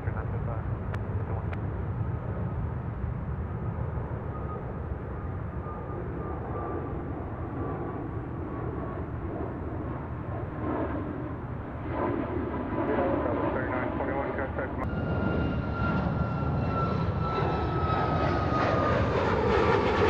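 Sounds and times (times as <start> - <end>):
jet engines rumbling at takeoff: 0.0 - 20.0.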